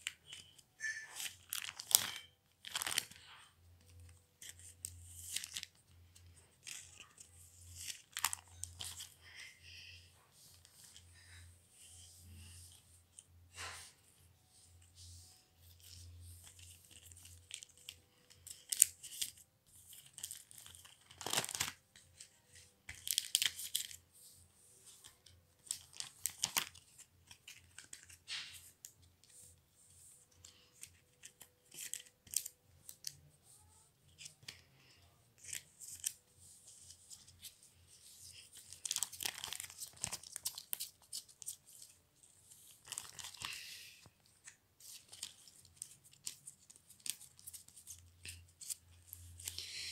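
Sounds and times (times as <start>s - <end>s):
plastic pages crinkling: 0.0s - 9.4s, 10.4s - 49.9s.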